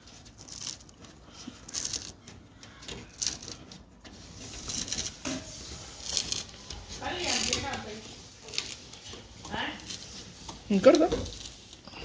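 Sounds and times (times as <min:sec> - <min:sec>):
plastic and metal parts rattling: 0:00.0 - 0:12.0.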